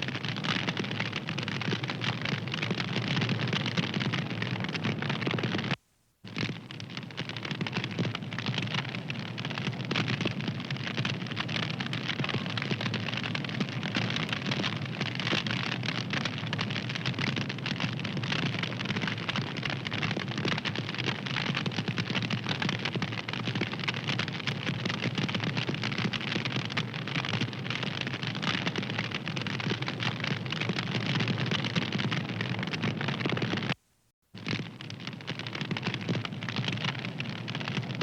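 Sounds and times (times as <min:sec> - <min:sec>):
wood fire crackling: 0:00.0 - 0:33.8, 0:34.4 - 0:38.0.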